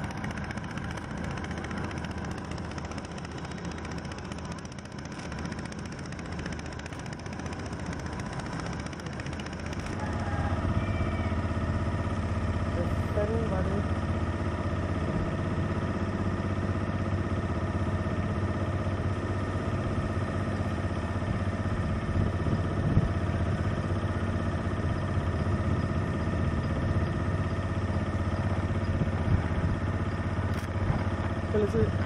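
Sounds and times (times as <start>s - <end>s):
boat engine running: 0.0s - 32.0s.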